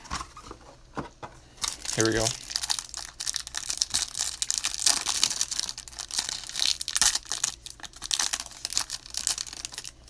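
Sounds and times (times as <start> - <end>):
plastic wrapper tearing and crinkling: 1.6 - 10.0.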